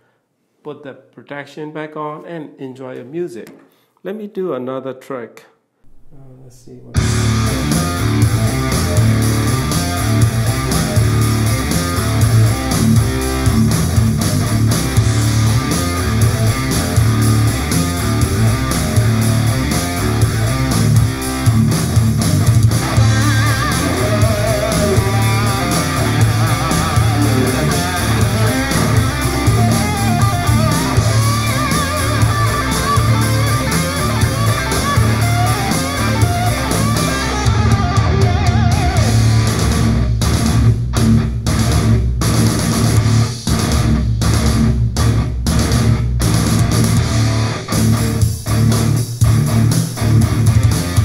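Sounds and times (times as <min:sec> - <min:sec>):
hard rock music from speaker: 0:07.0 - 0:51.0.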